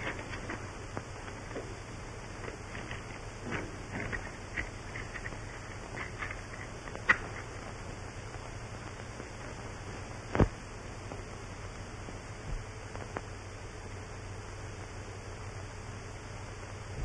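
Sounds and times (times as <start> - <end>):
film soundtrack hiss: 0.0 - 17.0
low hum: 0.0 - 17.0.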